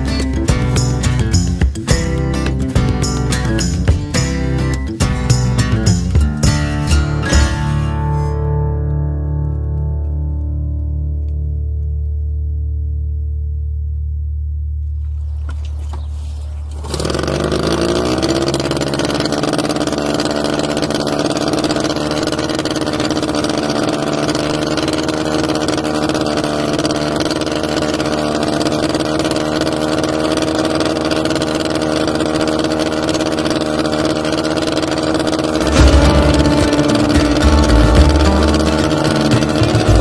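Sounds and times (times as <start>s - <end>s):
outboard motor starting and idling: 0.0s - 8.8s, 14.8s - 40.0s.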